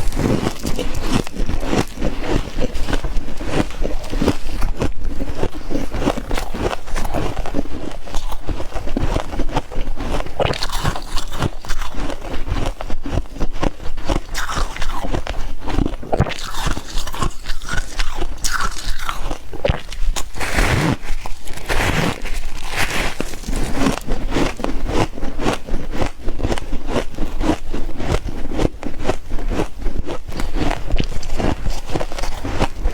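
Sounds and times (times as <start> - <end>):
frost being chewed: 0.0 - 32.9.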